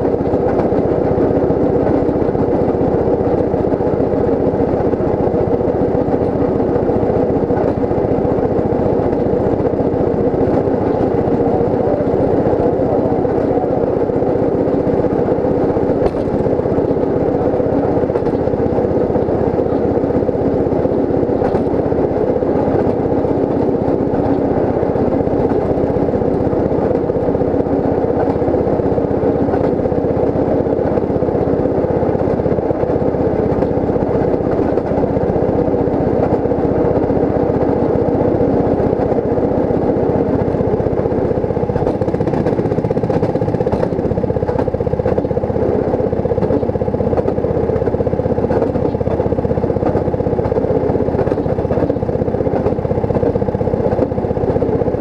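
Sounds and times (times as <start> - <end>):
small engine running steadily: 0.0 - 55.0
wheels clicking on track: 0.0 - 55.0.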